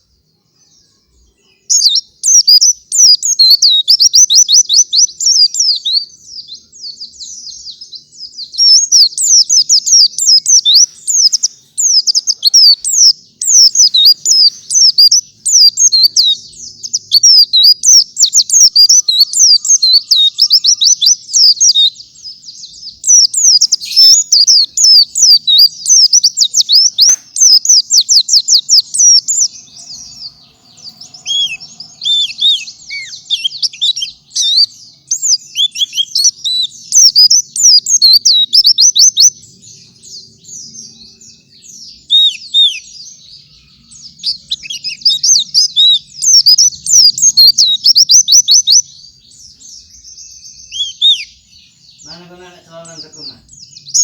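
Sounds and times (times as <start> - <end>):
bird chirping song: 0.0 - 54.0.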